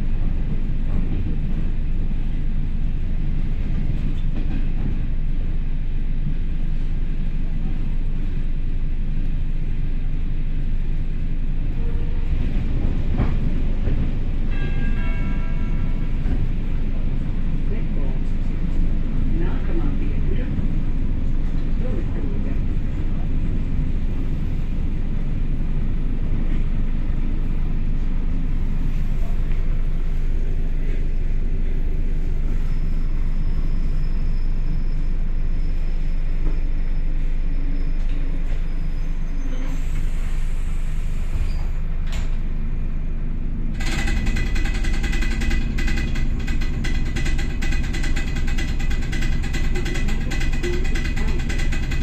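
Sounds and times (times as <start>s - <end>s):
electric train rumbling on rails: 0.0s - 52.0s
steady high whine: 0.0s - 52.0s.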